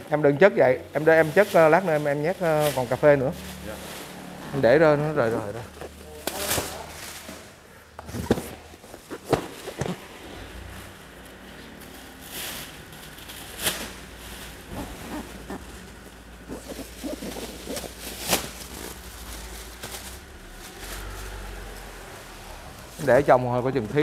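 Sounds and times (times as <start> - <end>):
sacks and cartons rustling: 1.0 - 22.2.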